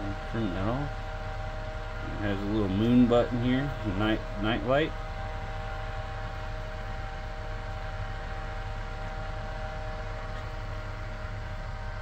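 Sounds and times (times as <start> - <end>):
ceiling fan whirring: 0.0 - 12.0.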